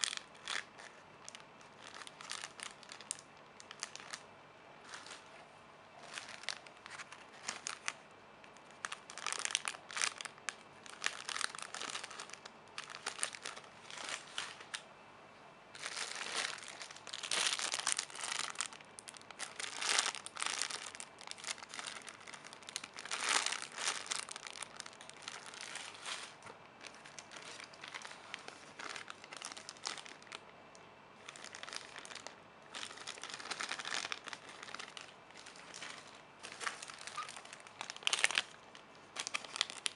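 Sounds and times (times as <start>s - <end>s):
plastic packaging crinkling: 0.0s - 5.4s, 6.0s - 14.9s, 15.7s - 30.6s, 31.2s - 39.9s.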